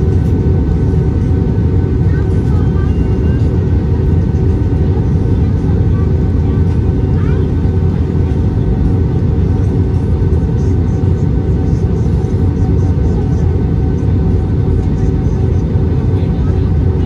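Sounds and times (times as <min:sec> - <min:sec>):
airplane cabin rumble: 0:00.0 - 0:17.0
faint tonal hum: 0:00.0 - 0:17.0.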